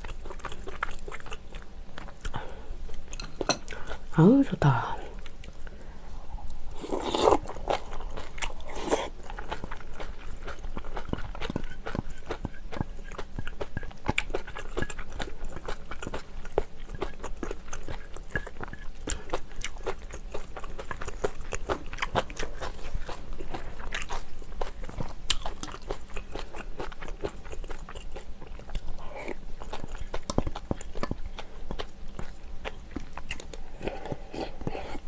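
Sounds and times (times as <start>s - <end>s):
person chewing: 0.0s - 4.1s, 6.4s - 35.0s.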